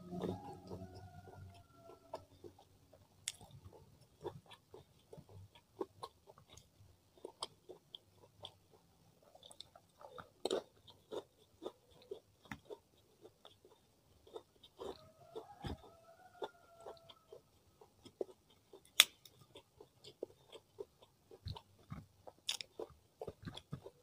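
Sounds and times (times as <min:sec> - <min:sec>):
person chewing with wet smacks: 0:00.1 - 0:24.0.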